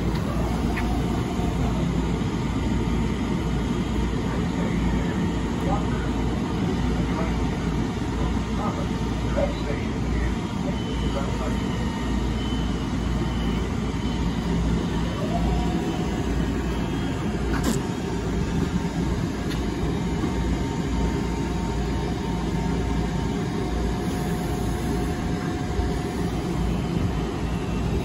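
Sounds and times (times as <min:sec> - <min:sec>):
train rumble and hum: 0:00.0 - 0:28.0.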